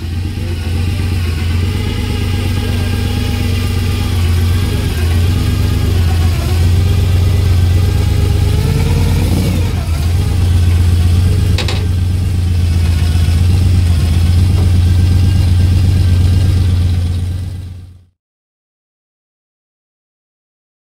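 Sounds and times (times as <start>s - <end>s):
truck engine idling: 0.0s - 18.1s.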